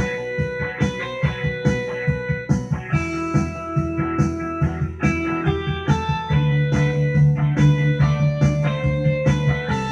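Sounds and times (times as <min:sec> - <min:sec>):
electronic keyboard blues tune: 0:00.0 - 0:09.9
steady beat: 0:00.0 - 0:09.9.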